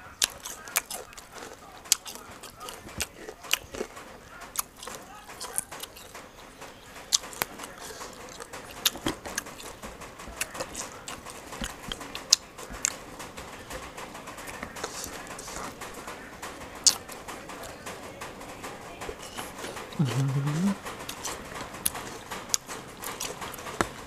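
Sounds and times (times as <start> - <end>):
chewing and crunching fruit: 0.0 - 24.0.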